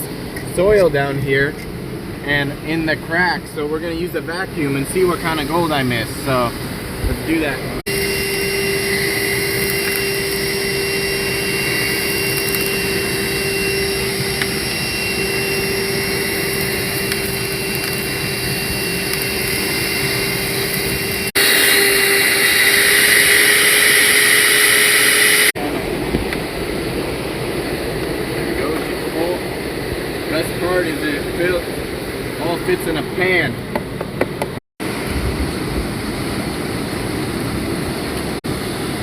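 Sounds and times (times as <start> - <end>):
vacuum humming with high whine: 0.0 - 39.0.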